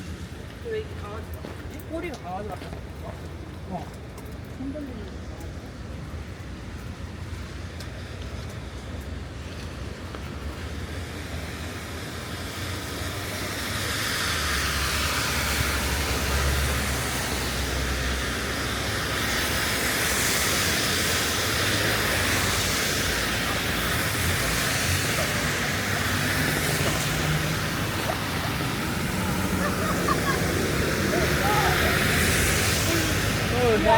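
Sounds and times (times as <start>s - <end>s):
low traffic rumble: 0.0s - 33.9s
rain hissing on street: 0.0s - 33.9s.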